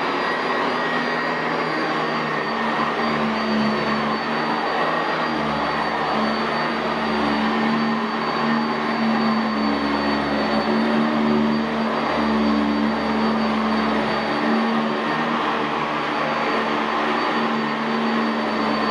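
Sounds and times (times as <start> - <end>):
vacuum cleaner running over carpet: 0.0 - 18.9.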